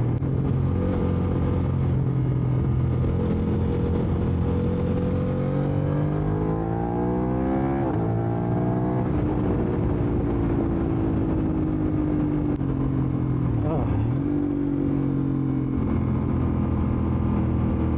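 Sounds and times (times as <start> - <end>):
motorcycle engine revving: 0.0 - 17.9.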